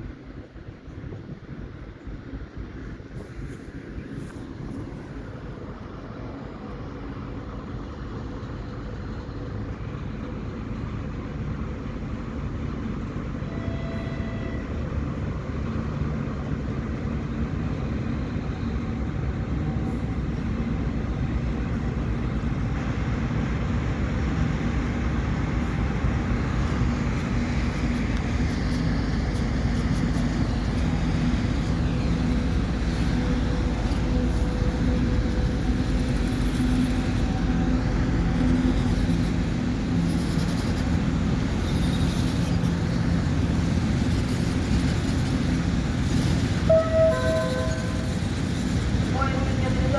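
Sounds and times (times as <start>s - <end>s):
electric locomotive droning: 0.0s - 49.9s.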